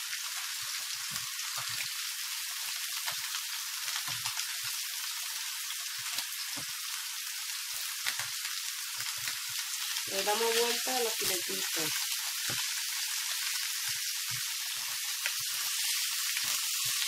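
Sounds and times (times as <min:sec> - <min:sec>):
chicken sizzling in frying pan: 0:00.0 - 0:17.0.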